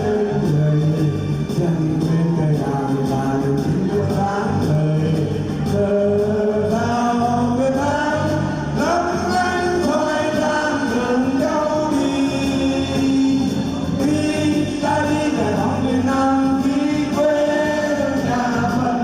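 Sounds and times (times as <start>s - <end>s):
backing music with steady beat: 0.0s - 19.0s
person singing: 0.0s - 19.0s.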